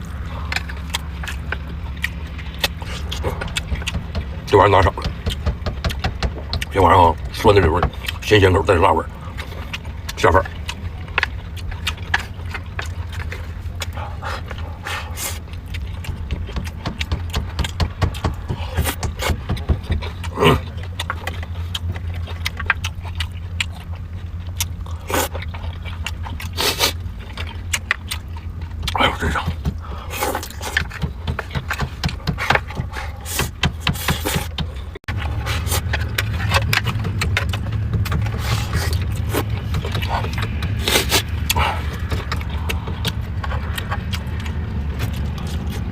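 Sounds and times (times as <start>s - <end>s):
chewing: 0.0s - 45.9s
steady low hum: 0.0s - 45.9s.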